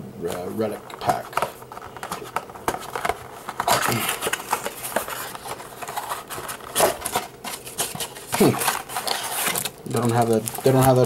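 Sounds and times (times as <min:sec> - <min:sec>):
card packs rustling and crinkling: 0:00.2 - 0:11.0.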